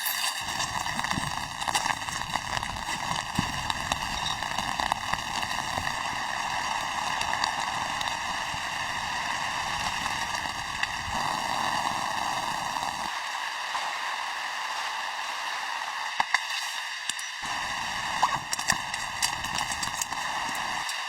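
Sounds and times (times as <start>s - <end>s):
light rain hissing: 0.0s - 21.0s.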